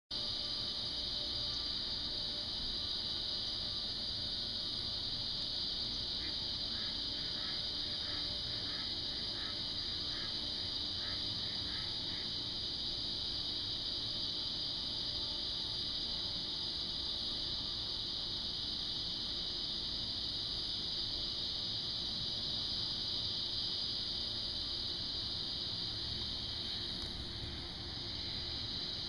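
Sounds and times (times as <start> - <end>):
insects chorus: 0.1 - 29.0.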